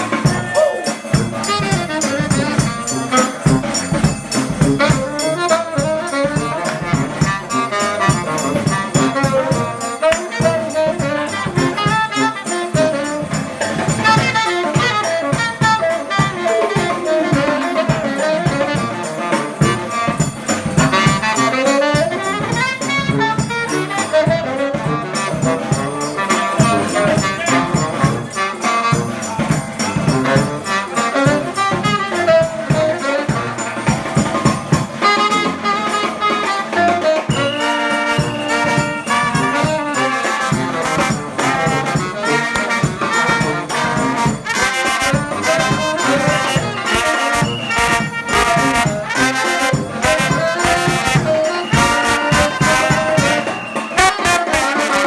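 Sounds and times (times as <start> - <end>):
brass band playing: 0.0 - 55.0
steady drum beat: 0.0 - 55.0
trombone: 0.0 - 55.0
trumpet: 0.0 - 55.0
tuba: 0.0 - 55.0.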